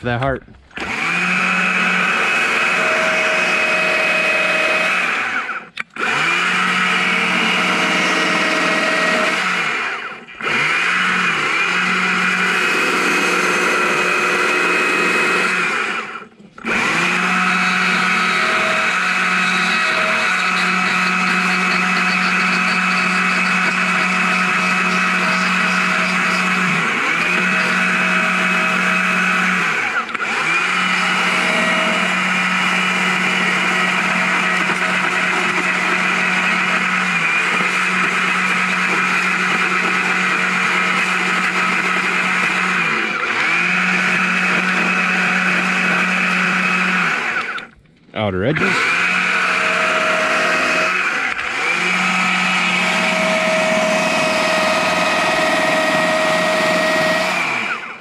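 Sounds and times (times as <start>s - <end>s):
chainsaw carving into log: 0.2s - 58.0s.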